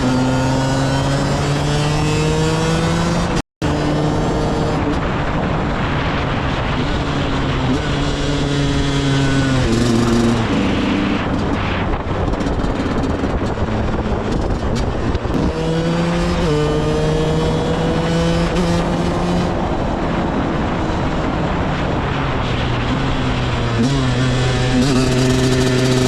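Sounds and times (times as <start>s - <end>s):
rushing noise: 1.2s - 26.0s.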